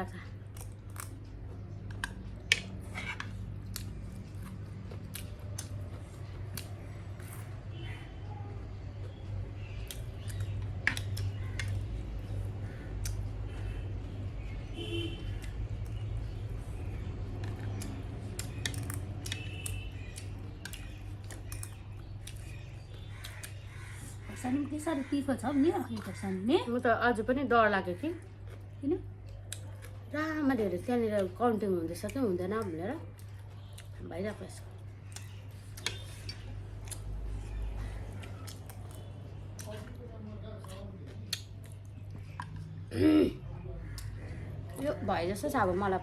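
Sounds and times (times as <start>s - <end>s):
chewing with clicks and crunches: 0.0s - 8.0s, 8.6s - 14.6s, 15.2s - 26.8s, 27.9s - 46.0s.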